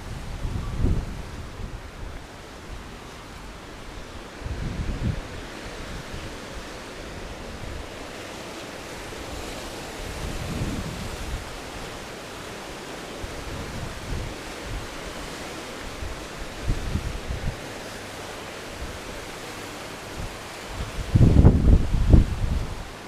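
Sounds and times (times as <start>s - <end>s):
wind on microphone: 0.0s - 12.2s, 13.2s - 23.0s.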